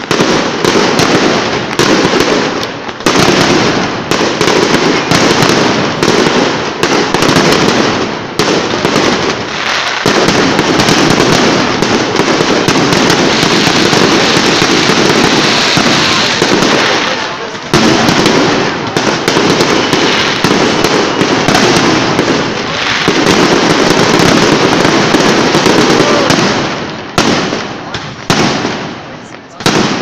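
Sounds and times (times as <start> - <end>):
fireworks bangs: 0.0 - 30.0
fireworks crackling: 0.0 - 30.0.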